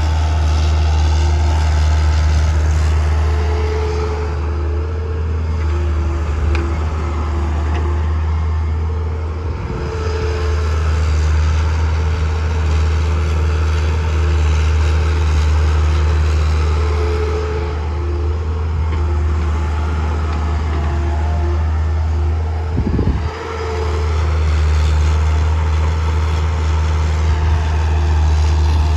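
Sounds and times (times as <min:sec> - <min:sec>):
diesel machinery engines droning: 0:00.0 - 0:28.9.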